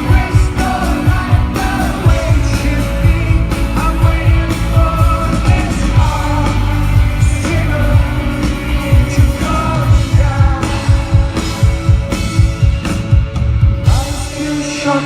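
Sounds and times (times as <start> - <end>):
person singing: 0.0 - 12.0, 13.8 - 15.0
loud drums: 0.0 - 15.0
rock band playing live: 0.0 - 15.0.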